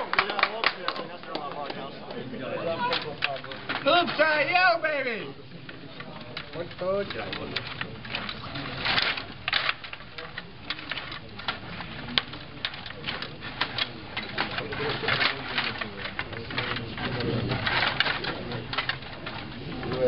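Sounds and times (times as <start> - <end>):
table hockey rods clattering: 0.0 - 20.0.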